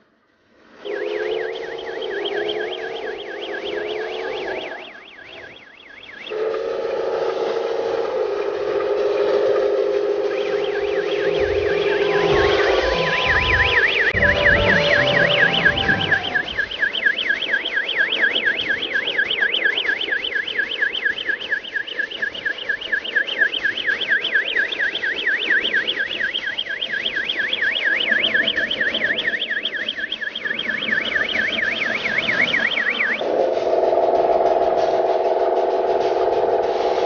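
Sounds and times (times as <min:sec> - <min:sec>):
electronic yelp siren: 0:00.8 - 0:06.6, 0:08.0 - 0:37.0.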